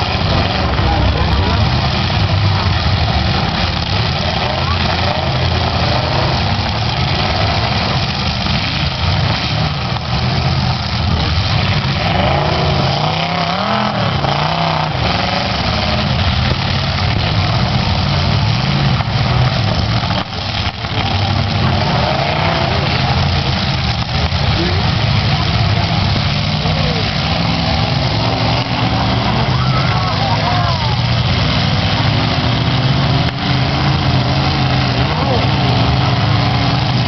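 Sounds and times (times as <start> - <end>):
car engines idling: 0.0 - 37.0
engine revving: 0.0 - 37.0.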